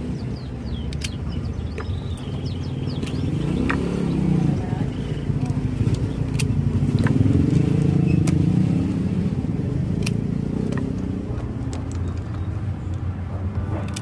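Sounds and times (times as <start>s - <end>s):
motor engine droning: 0.0s - 14.0s.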